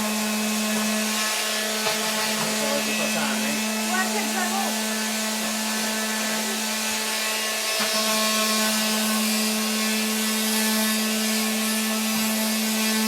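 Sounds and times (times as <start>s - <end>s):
power tool motor running: 0.0s - 13.0s.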